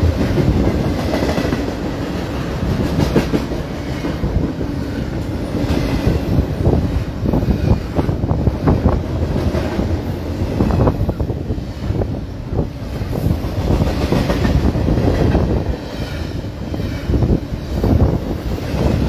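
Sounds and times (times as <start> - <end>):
freight train wheels clattering: 0.0 - 19.0.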